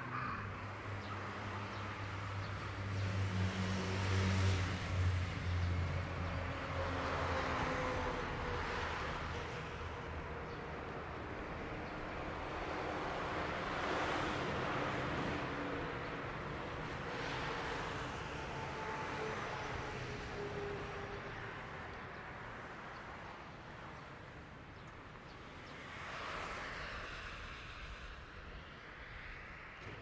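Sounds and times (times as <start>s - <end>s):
cars passing with tyre noise: 0.0s - 30.0s.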